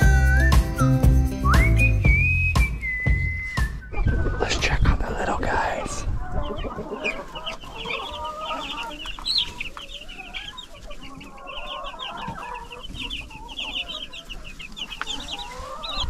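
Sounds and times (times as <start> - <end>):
chicks peeping: 0.0 - 16.0
low wavering chick calls: 1.4 - 4.6, 5.6 - 16.0.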